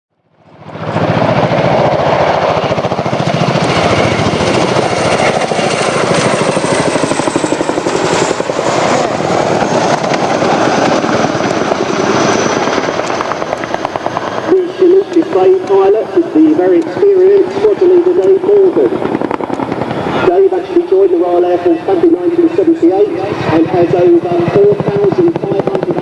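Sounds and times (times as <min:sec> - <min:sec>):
helicopter rotors beating: 0:00.3 - 0:26.0
turbine whine: 0:00.4 - 0:26.0.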